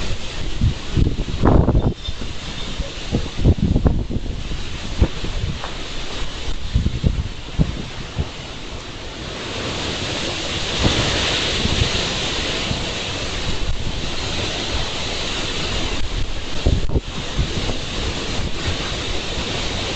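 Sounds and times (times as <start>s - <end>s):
strong gusting wind: 0.0s - 19.9s
wind buffeting microphone: 0.0s - 19.9s.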